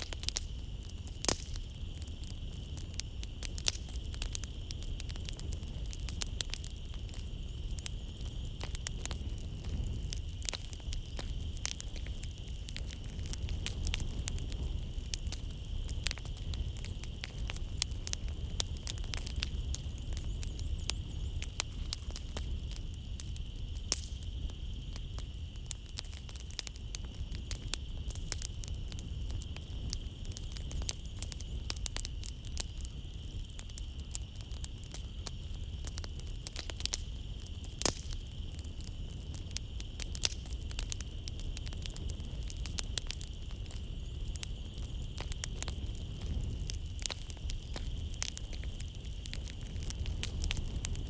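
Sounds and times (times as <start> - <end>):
night insects droning: 0.0 - 51.0
wood fire crackling and popping: 0.0 - 51.0.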